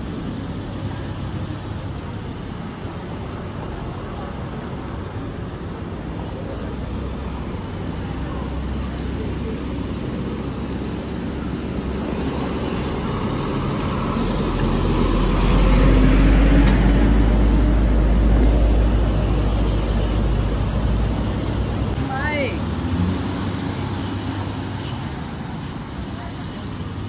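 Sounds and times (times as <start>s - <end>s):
street traffic: 0.0s - 27.0s
van passing: 0.0s - 27.0s.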